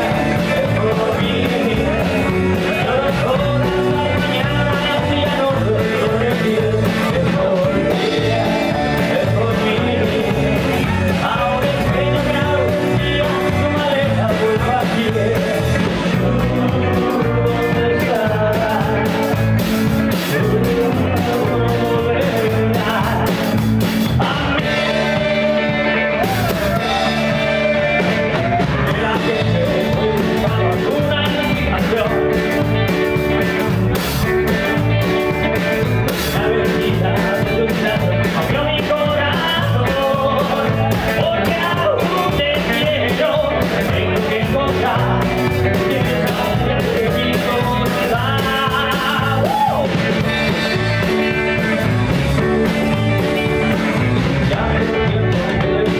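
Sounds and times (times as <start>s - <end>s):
drum kit: 0.0s - 55.9s
electric guitar: 0.0s - 55.9s
keyboard: 0.0s - 55.9s
man singing: 0.0s - 55.9s.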